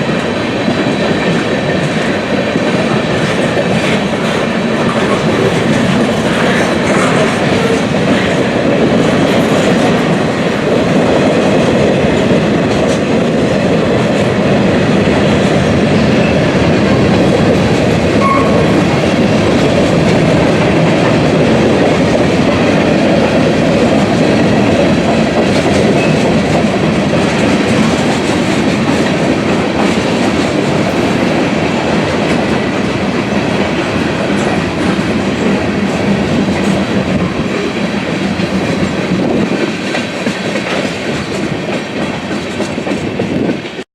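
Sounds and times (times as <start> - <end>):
freight train wheels on rails: 0.0 - 43.8.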